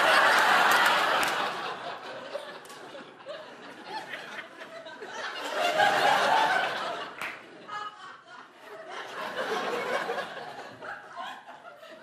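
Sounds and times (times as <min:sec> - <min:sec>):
studio audience laughing: 0:00.0 - 0:12.0.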